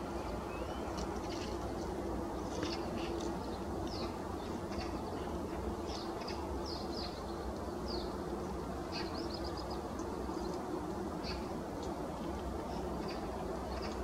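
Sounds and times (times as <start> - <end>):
birds chirping: 0.0 - 11.6
faint hum: 0.0 - 14.0.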